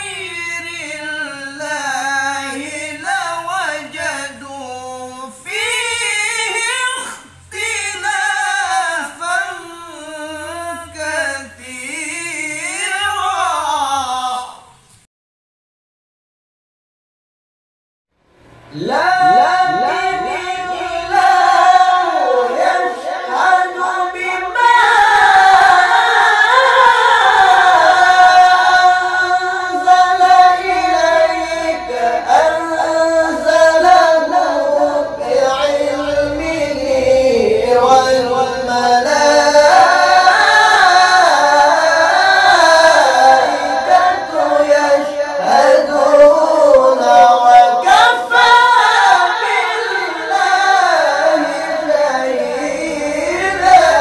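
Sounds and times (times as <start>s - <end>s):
two people chanting in duet: 0.0s - 14.8s, 18.6s - 54.0s.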